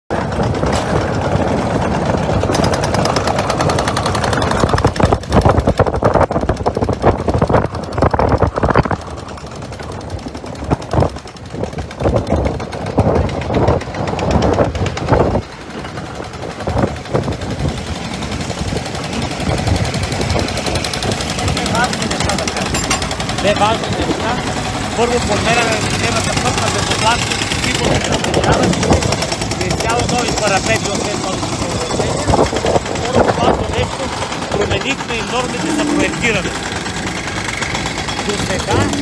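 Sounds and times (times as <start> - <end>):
diesel engines running: 0.1 - 39.0
hydraulic breakers hammering road: 0.1 - 39.0.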